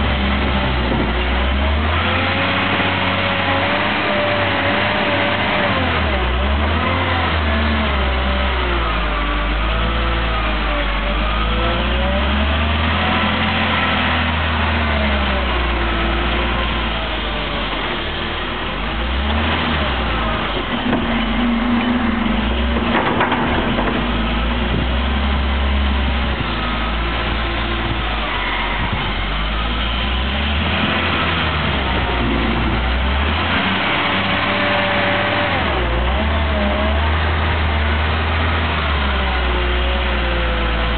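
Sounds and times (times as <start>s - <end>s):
diesel engine revving under load: 0.0s - 40.9s.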